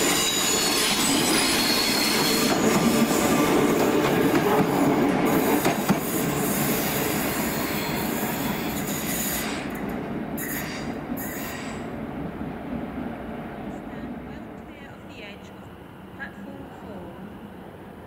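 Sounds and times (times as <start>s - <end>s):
electric train running on track: 0.0s - 18.0s.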